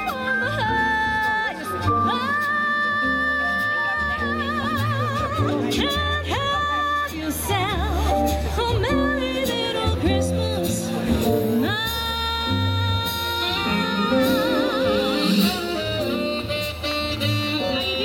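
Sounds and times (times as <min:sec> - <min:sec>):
woman singing into microphone: 0:00.0 - 0:16.3
musical backing: 0:00.0 - 0:18.0.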